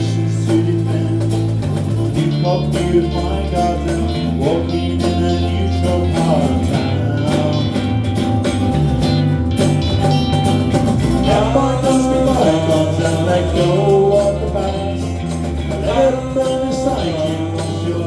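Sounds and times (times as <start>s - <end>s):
bass guitar: 0.0s - 18.0s
drums: 0.0s - 18.0s
electric guitar: 0.0s - 18.0s.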